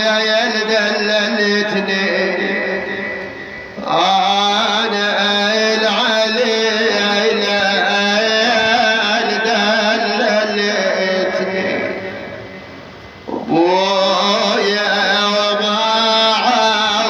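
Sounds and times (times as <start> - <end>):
man singing long wordless note: 0.0 - 12.6, 13.2 - 17.0.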